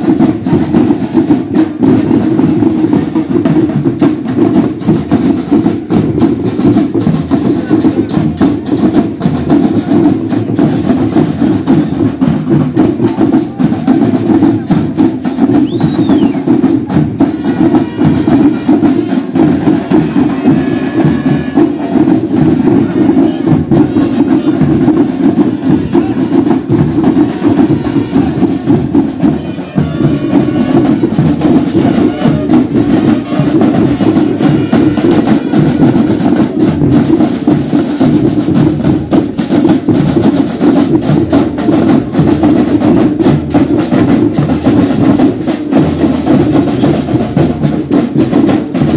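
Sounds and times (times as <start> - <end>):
drums beating: 0.0 - 48.9
marching band playing: 0.0 - 48.9.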